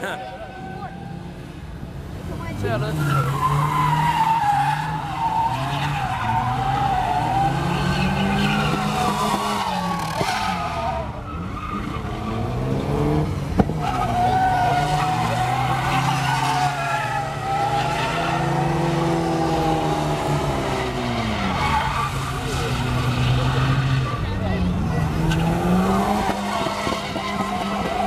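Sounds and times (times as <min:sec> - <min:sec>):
car engine revving: 0:00.0 - 0:28.0
tyres squealing on asphalt: 0:00.0 - 0:28.0.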